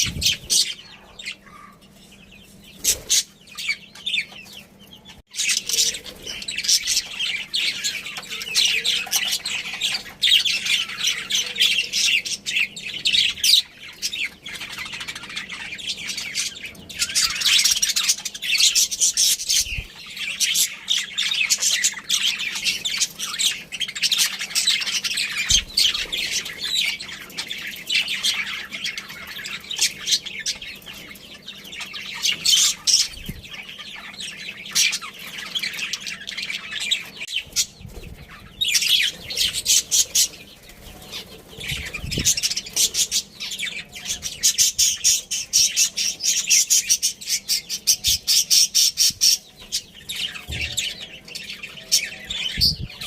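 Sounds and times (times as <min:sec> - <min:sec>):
budgerigars chirping: 0:00.0 - 0:53.0.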